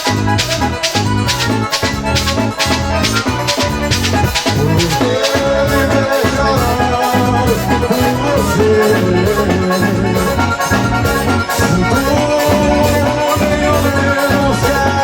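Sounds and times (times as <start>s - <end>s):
accordion: 0.0s - 15.0s
band music with bass and percussion: 0.0s - 15.0s.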